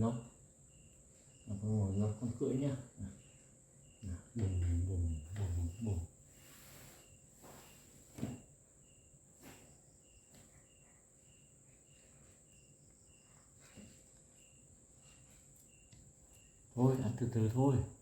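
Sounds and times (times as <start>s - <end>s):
faint high whine: 0.0s - 18.0s
insects chirping: 0.0s - 18.0s.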